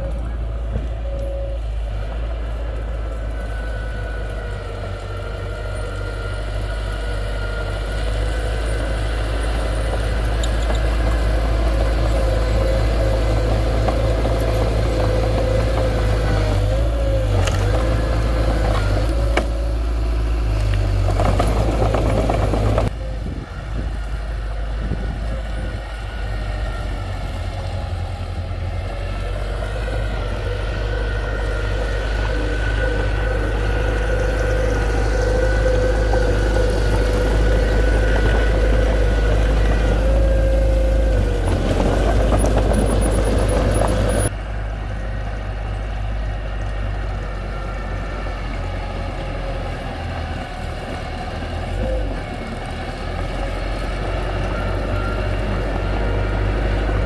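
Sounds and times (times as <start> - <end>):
heavy diesel engine whining: 0.0 - 57.0.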